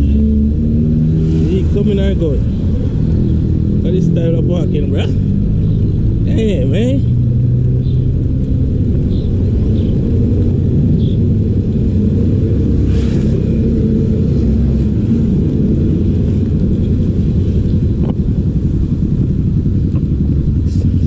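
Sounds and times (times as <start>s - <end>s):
low rumble of street traffic: 0.0s - 21.0s
wavering engine tones: 0.0s - 21.0s.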